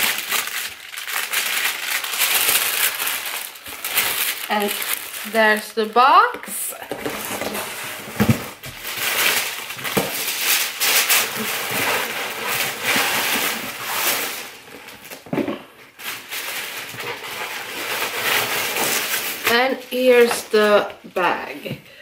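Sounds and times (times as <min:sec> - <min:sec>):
tissue paper rustling: 0:00.0 - 0:20.9.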